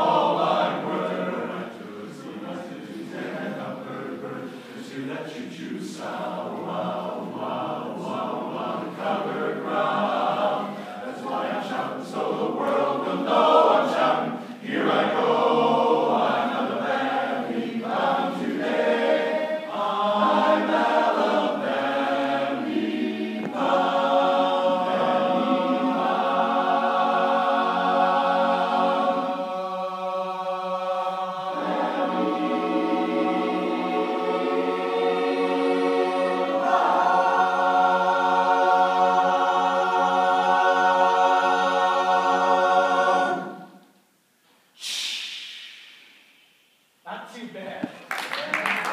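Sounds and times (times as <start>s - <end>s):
men's chorus singing a cappella: 0.0s - 43.8s.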